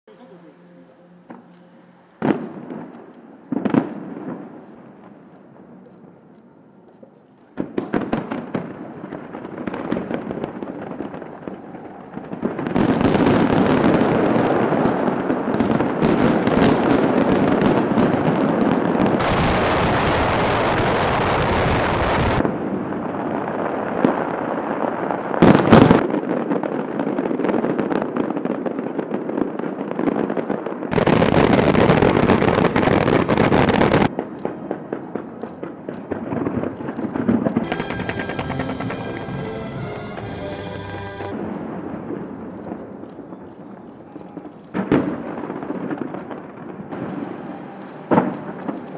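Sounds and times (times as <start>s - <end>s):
fireworks crackling and popping: 1.2s - 48.9s.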